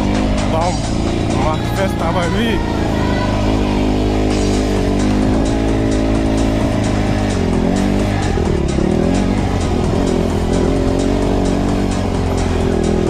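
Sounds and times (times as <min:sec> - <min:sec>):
motorbike engine revving: 0:00.0 - 0:13.0
music with steady beat: 0:00.0 - 0:13.0.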